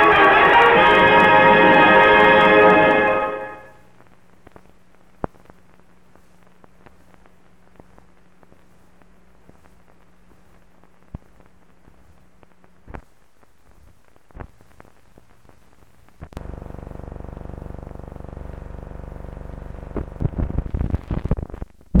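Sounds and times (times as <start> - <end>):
film soundtrack hiss: 0.0 - 21.9.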